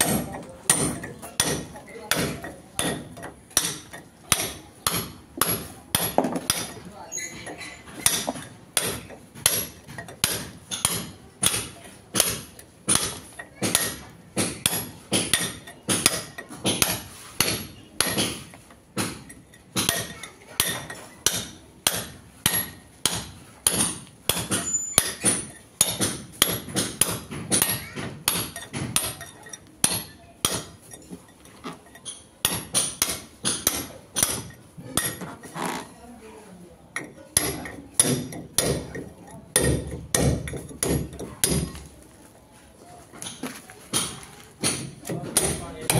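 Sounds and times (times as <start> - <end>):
hammer striking chisel on brick: 0.0 - 31.2, 31.8 - 35.5, 36.9 - 42.0, 43.1 - 45.9.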